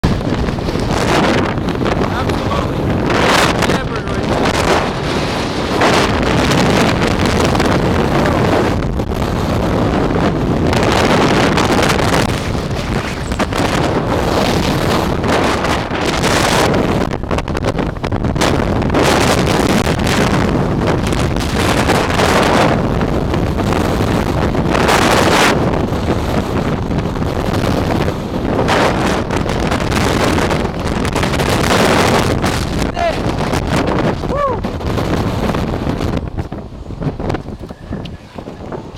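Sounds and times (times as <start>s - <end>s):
strong wind gusting against microphone: 0.0s - 38.9s.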